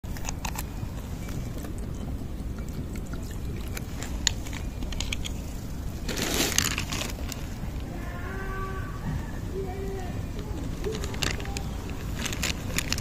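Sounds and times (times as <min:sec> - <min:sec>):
cat crunching dry kibble: 0:00.0 - 0:07.9, 0:10.3 - 0:13.0
low outdoor rumble: 0:00.0 - 0:13.0.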